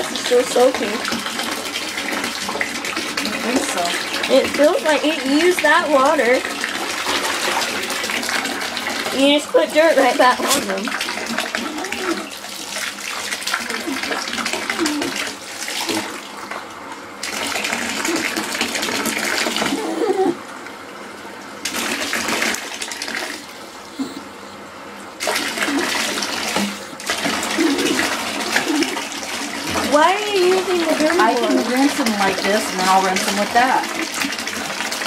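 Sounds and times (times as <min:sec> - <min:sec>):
bathwater running and splashing: 0:00.0 - 0:23.9, 0:25.1 - 0:35.0.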